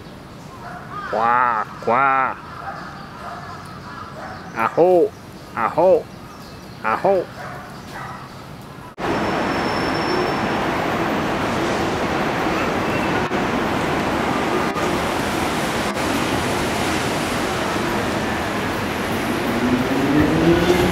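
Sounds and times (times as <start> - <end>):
city traffic noise: 0.0 - 20.9.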